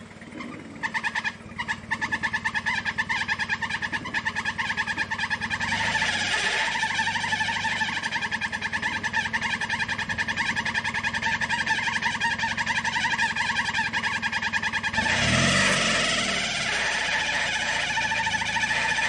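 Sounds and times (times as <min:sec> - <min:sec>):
engine rumble: 0:00.0 - 0:19.0.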